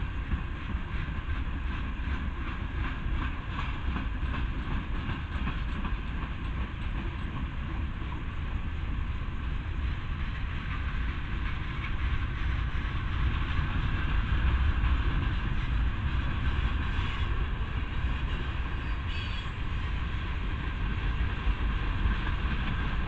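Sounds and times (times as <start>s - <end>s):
freight train wheels on rails: 0.0s - 23.0s.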